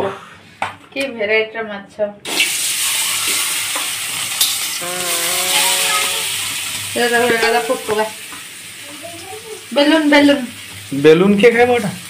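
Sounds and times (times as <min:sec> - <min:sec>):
fish sizzling in hot oil: 0:02.3 - 0:12.0.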